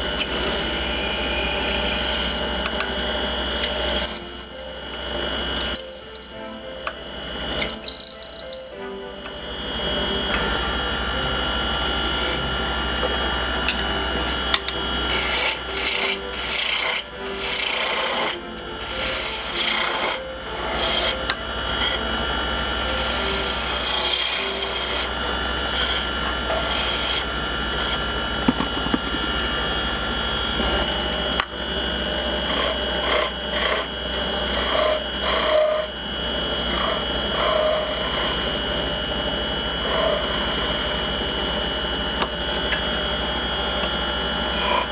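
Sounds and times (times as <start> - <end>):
turning tool shaving wood: 0.0 - 44.9
wood lathe motor hum: 0.0 - 44.9.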